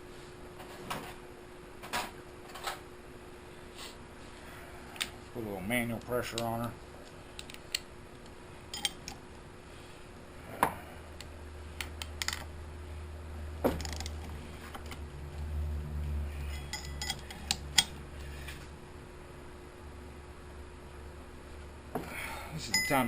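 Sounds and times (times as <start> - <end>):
low hum: 3.0 - 23.0.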